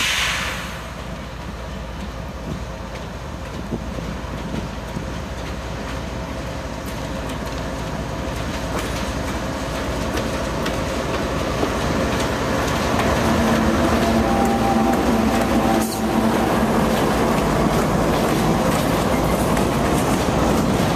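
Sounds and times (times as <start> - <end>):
train rumble: 0.0 - 20.9
train wheels clicking over rail joints: 0.9 - 20.9.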